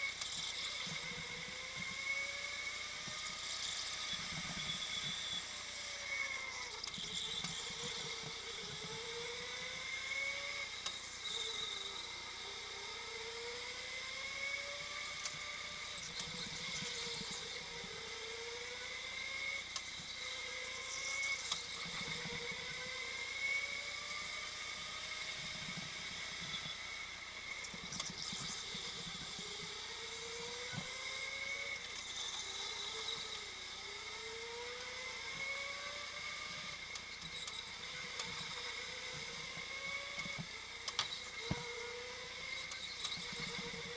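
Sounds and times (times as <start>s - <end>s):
go-kart motor whining: 0.0s - 43.9s.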